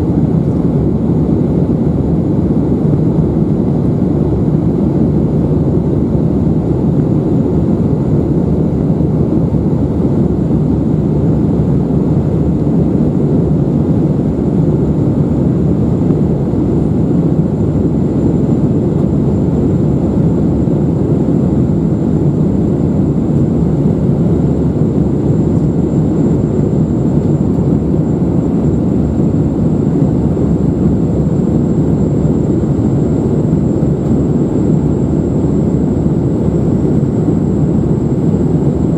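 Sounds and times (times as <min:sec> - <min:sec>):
airflow over fuselage: 0:00.0 - 0:38.9
jet engine roar in cabin: 0:00.0 - 0:38.9.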